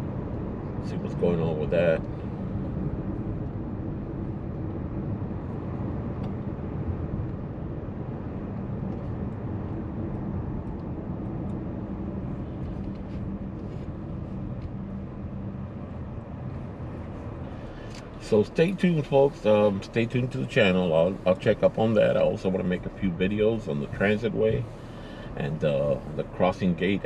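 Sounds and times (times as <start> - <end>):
low steady hum: 0.0 - 27.0
tyres rushing on road: 0.0 - 27.0.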